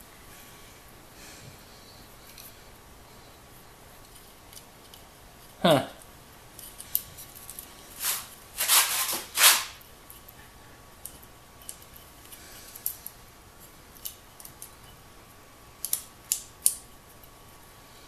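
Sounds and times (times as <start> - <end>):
wires and metal parts rustling: 1.9 - 17.8.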